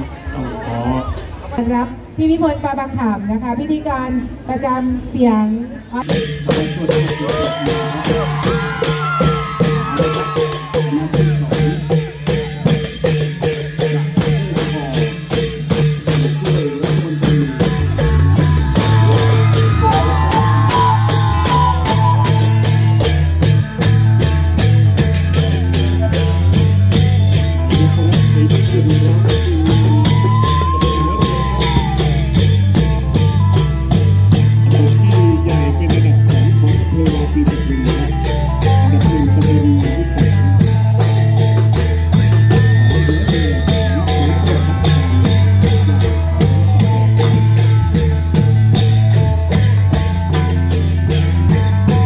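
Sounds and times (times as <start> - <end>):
hand cymbals: 6.0 - 52.0
long drums beating: 6.0 - 52.0.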